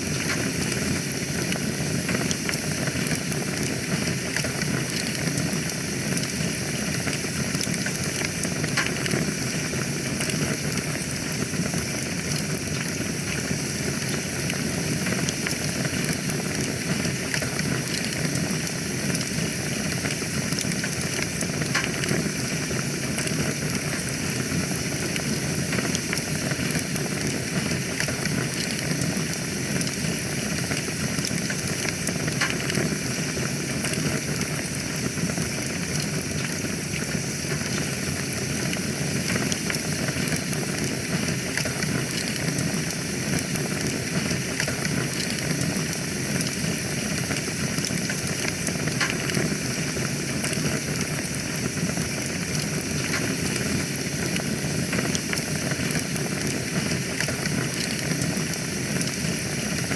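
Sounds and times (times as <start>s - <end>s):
fire burning in a fireplace: 0.0s - 59.9s
fire crackling and popping: 0.0s - 59.9s.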